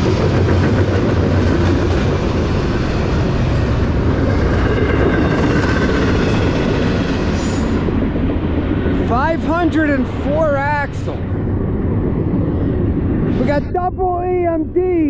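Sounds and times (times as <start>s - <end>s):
steel train wheels on rails: 0.0s - 13.8s.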